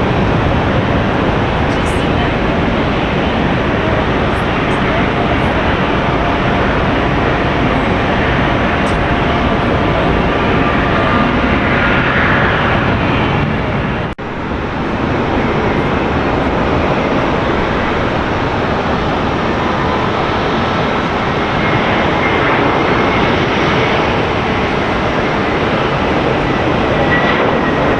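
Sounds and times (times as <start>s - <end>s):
jet airliner engines roaring: 0.0s - 27.9s.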